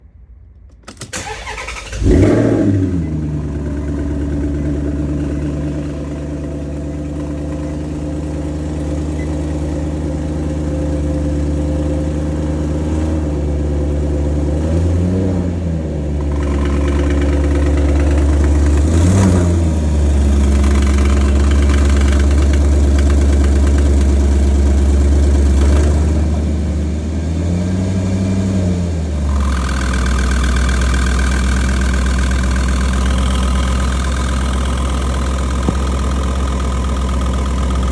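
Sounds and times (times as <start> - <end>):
car engine idling and revving: 0.6 - 37.9.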